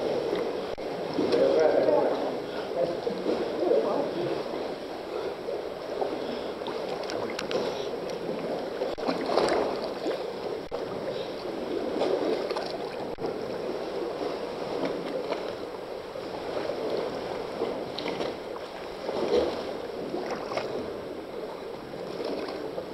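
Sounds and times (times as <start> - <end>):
water sloshing and splashing: 0.0 - 22.9.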